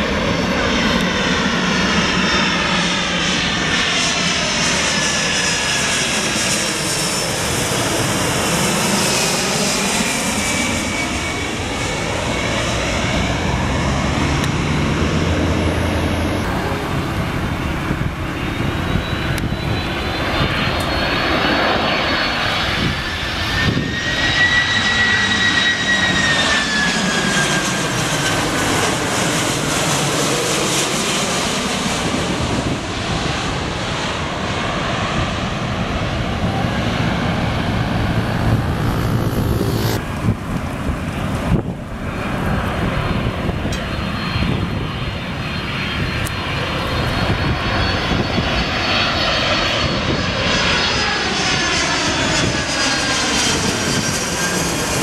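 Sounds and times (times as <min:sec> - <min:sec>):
jet airliner passing overhead: 0:00.0 - 0:55.0.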